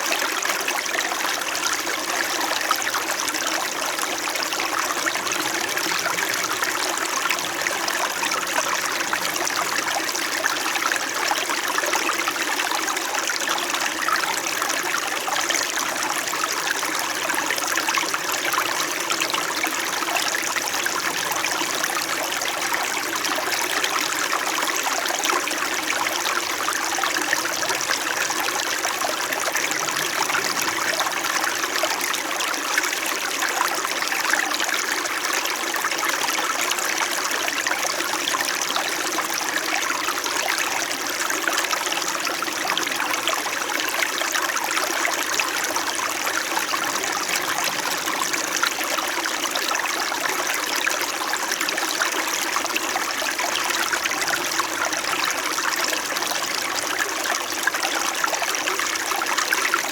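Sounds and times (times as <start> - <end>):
stream burbling over rocks: 0.0 - 59.9.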